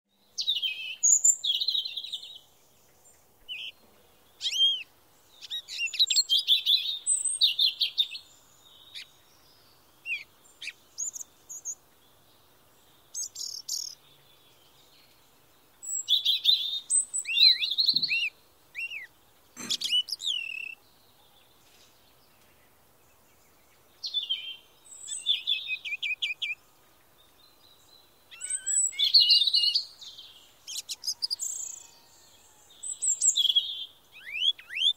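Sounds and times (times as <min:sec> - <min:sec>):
songbirds singing: 0:00.1 - 0:34.9.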